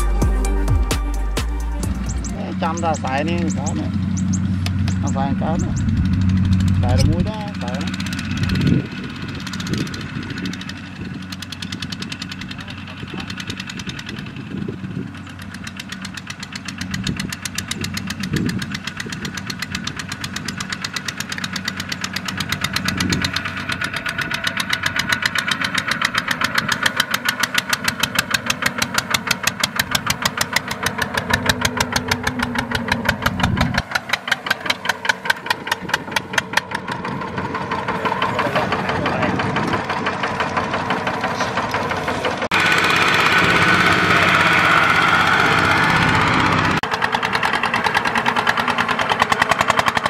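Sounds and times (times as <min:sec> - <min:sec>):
diesel tiller engine chugging: 0:00.0 - 0:50.0.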